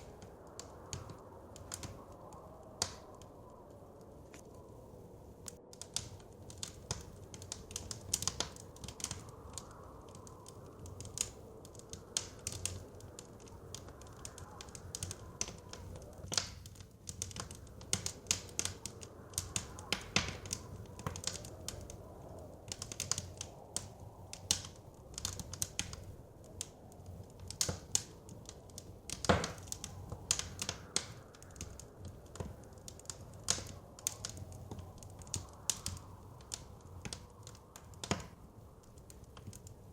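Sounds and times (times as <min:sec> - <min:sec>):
wind: 0:00.0 - 0:39.9
wood fire crackling: 0:00.0 - 0:39.9.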